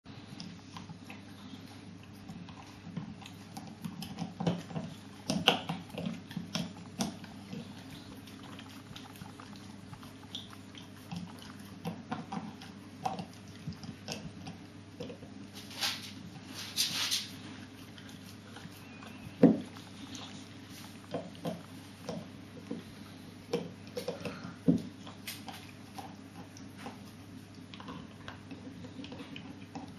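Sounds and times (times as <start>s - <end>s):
steady low hum: 0.1s - 29.9s
dog crunching on chew bone: 0.3s - 29.9s.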